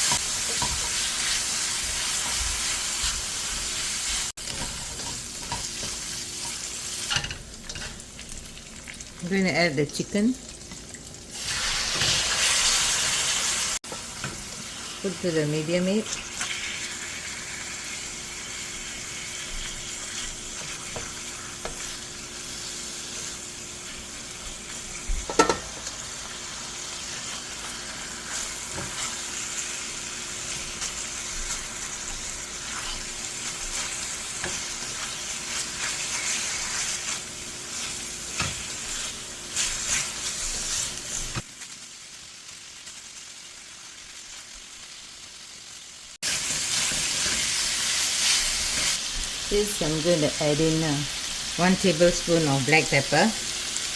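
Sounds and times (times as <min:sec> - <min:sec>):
chicken sizzling in oil: 0:00.0 - 0:53.9.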